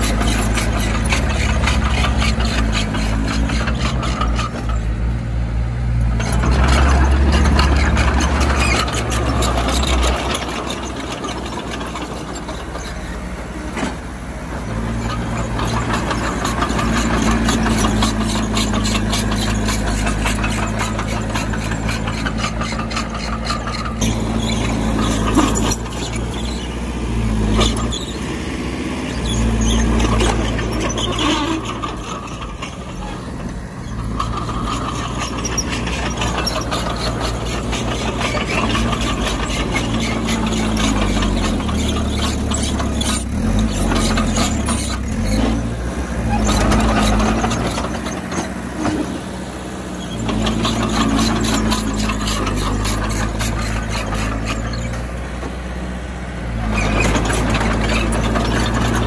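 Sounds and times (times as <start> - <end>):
steel tracks squealing and clattering: 0.0 - 5.2, 5.9 - 59.0
bulldozer diesel engine running: 0.0 - 59.0.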